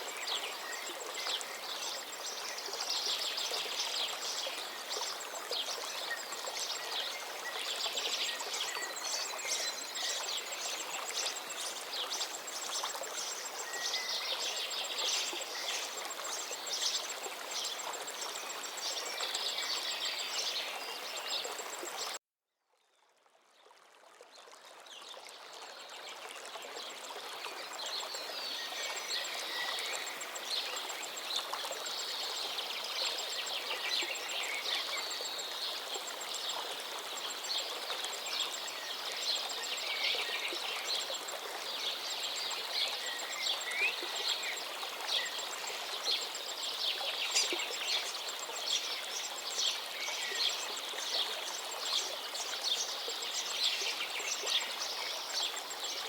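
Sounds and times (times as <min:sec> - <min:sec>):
river flowing: 0:00.0 - 0:22.2, 0:23.2 - 0:56.0
songbirds singing and chirping: 0:00.0 - 0:22.2, 0:27.4 - 0:56.0.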